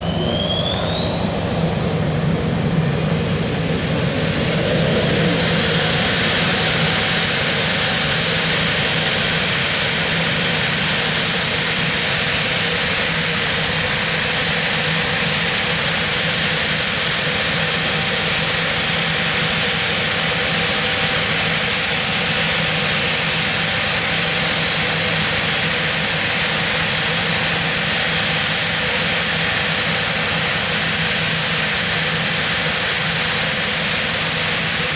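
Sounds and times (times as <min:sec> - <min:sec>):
jet engine high whine: 0:00.0 - 0:34.9
jet engine roar: 0:00.0 - 0:34.9.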